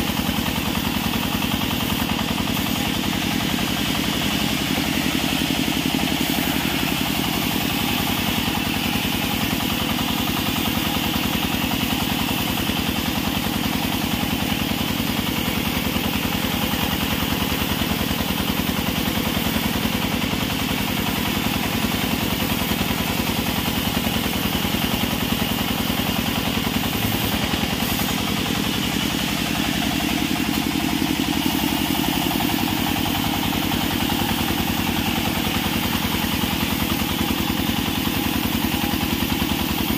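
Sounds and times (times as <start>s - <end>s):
band sawmill droning: 0.0s - 39.9s.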